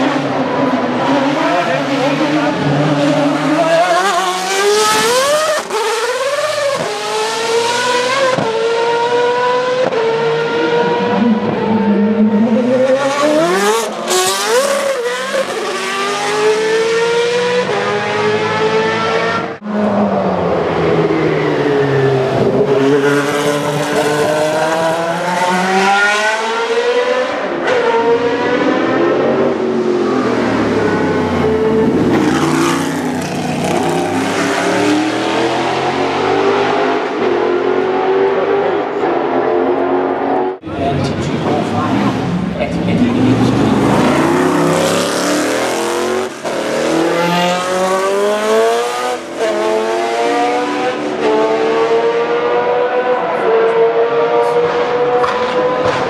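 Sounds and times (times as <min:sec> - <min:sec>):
racing car engines revving: 0:00.0 - 0:56.0.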